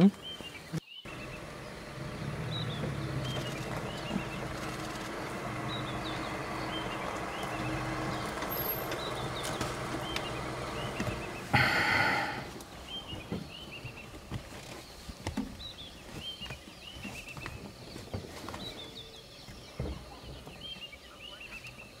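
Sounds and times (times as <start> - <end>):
forest birds chirping: 0.0 - 22.0.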